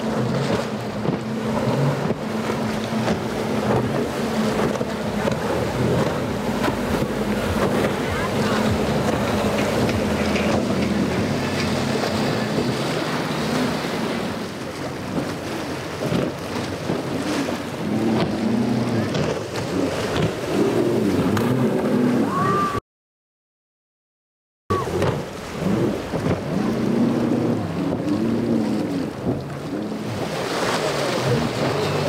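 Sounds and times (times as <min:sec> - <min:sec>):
outboard motorboat engine drone: 0:00.0 - 0:22.8, 0:24.7 - 0:32.0.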